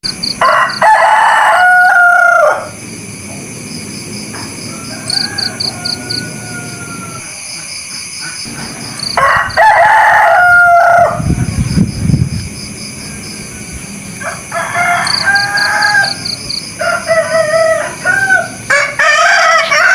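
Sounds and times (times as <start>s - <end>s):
roosters crowing: 0.0s - 2.9s, 3.8s - 11.7s, 13.0s - 19.9s.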